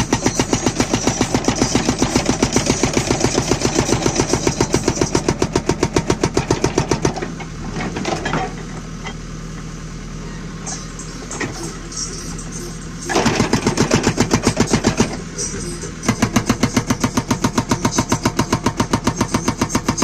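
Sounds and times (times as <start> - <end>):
hydraulic breaker hammering: 0.0 - 8.6, 11.2 - 20.0
diesel engine running: 0.0 - 20.0.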